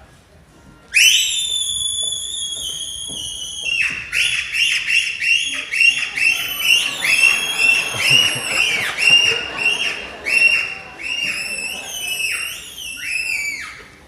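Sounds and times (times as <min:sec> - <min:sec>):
shrill whistling: 0:00.9 - 0:13.9.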